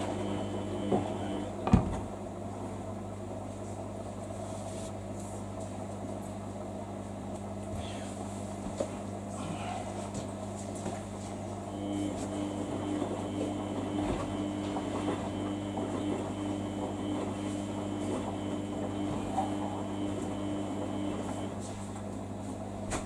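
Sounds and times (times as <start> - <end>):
washing machine hum: 0.0 - 23.0.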